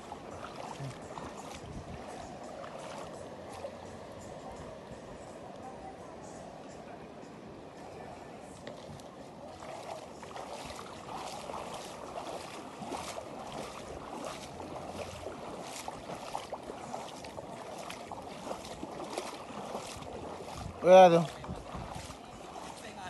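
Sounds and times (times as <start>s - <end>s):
sea water lapping at shoreline: 0.0s - 23.0s.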